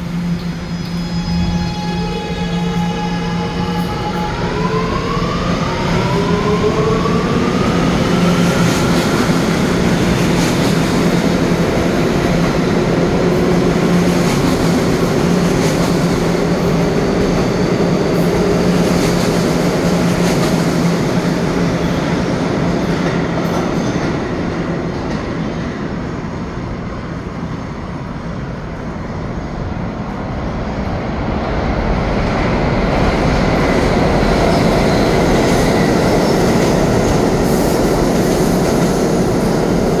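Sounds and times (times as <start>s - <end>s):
passing subway train rumble: 0.0s - 40.0s
subway train pulling out: 0.0s - 40.0s.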